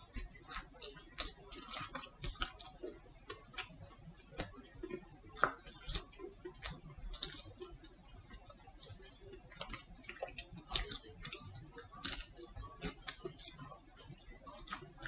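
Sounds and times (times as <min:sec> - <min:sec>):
mouth clicks and smacks: 0:00.0 - 0:15.0
person chewing: 0:00.0 - 0:15.0.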